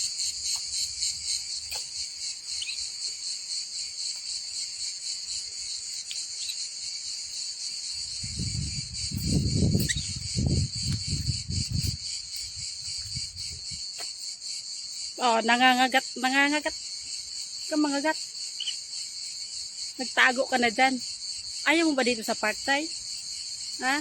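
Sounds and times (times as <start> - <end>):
insects shrilling: 0.0 - 24.0.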